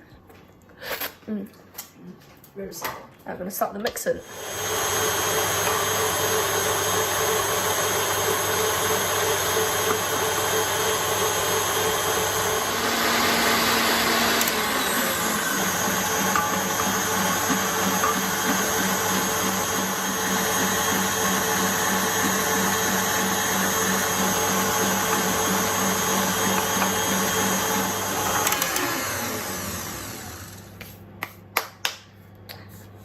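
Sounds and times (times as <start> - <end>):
stand mixer motor whirring: 4.2 - 30.7.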